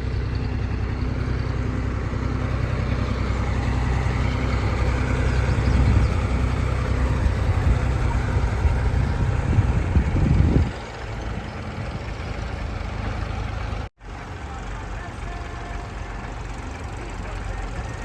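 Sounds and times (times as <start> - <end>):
backhoe diesel engine running: 0.0 - 18.0.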